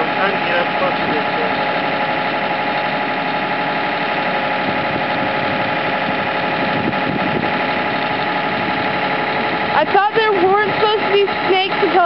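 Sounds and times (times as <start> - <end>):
skid loader engine idling: 0.0 - 12.0.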